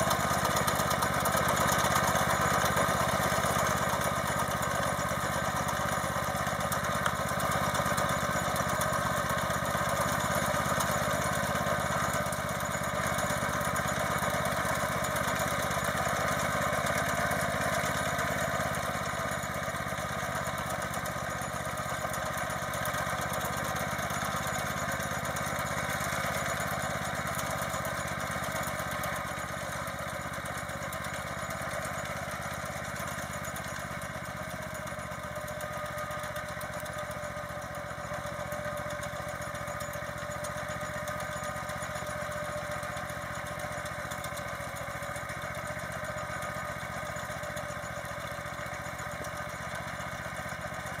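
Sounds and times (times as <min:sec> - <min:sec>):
tractor engine under load: 0:00.0 - 0:51.0.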